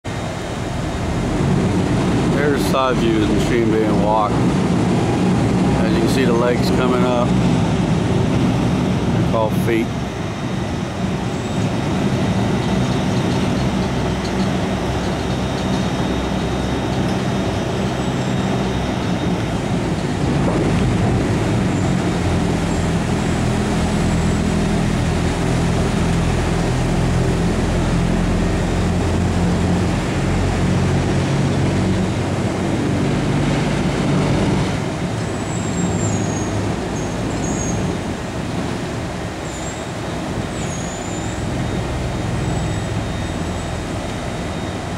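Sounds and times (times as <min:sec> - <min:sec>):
heavy machinery drone: 0:00.1 - 0:44.9.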